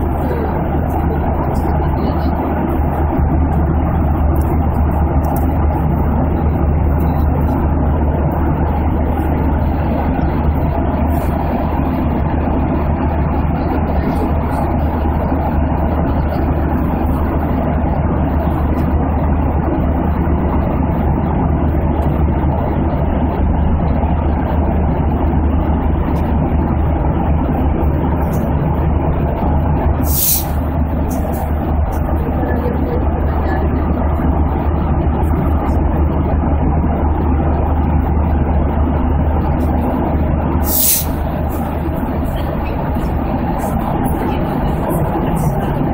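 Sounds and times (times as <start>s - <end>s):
aeroplane cabin engine rush: 0.0s - 45.9s.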